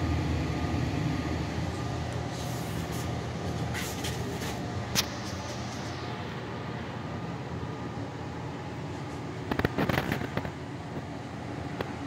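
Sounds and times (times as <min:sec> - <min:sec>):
furnace motor humming: 0:00.0 - 0:12.0.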